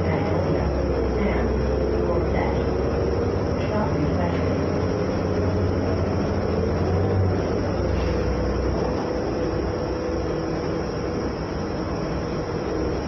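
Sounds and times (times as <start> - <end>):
bus engine drone: 0.0 - 13.0
faint whine: 0.0 - 13.0
road rumble: 0.0 - 13.0.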